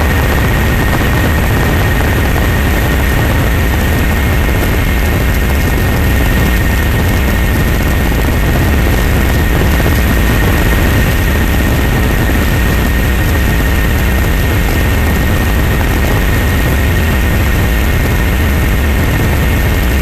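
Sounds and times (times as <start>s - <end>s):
engine drone with high whine: 0.0s - 20.0s.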